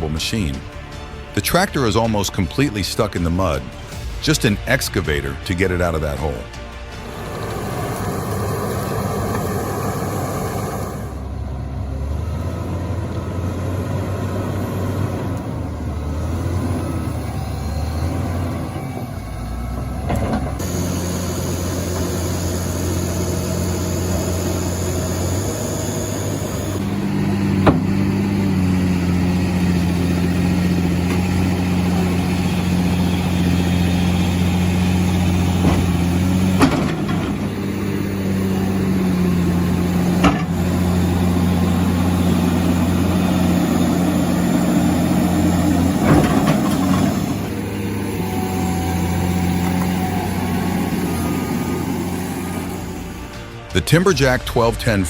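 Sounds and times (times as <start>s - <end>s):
heavy machine engines running: 0.0s - 55.0s.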